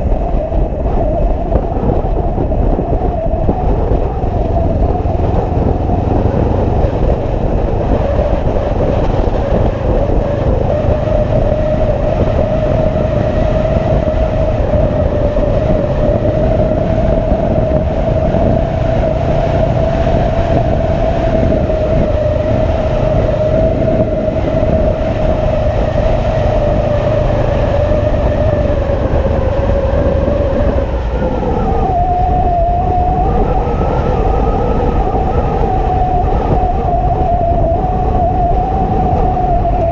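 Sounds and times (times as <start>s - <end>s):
motorcycle engine drone: 0.0s - 39.9s
wind rumble on microphone: 0.0s - 39.9s.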